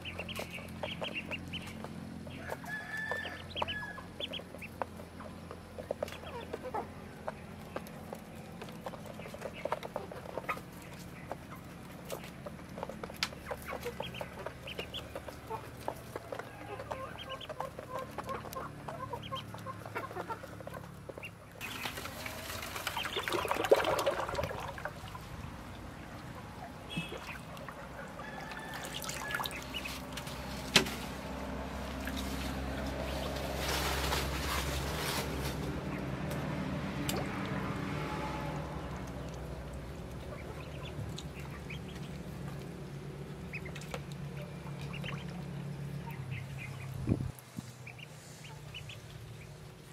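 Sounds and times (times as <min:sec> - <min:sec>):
ducklings peeping: 0:00.0 - 0:30.7, 0:35.7 - 0:37.6, 0:38.2 - 0:49.9
water splashing and sloshing: 0:00.0 - 0:49.9.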